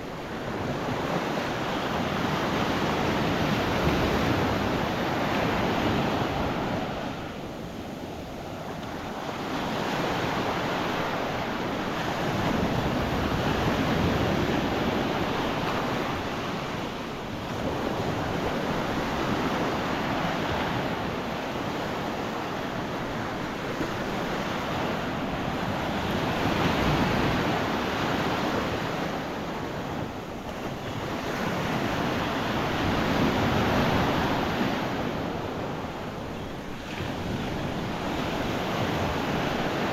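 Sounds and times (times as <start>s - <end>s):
waves breaking on sandy beach: 0.0s - 39.9s
wind on microphone: 0.0s - 39.9s.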